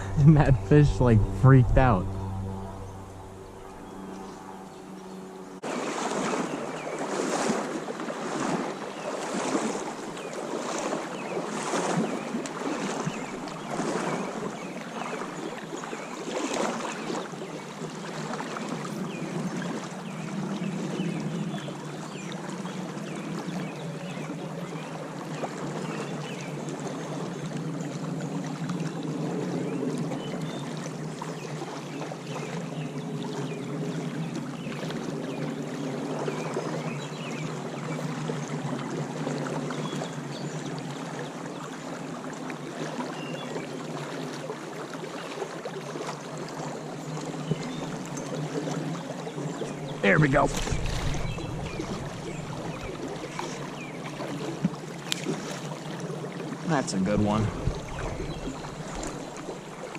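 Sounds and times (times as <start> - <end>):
creek water rushing and splashing: 0.0 - 59.9.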